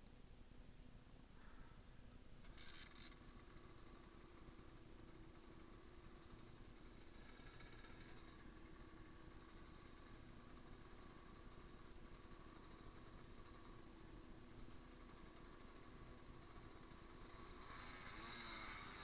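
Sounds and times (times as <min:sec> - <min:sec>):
faint moped engine idling: 0:00.0 - 0:19.0.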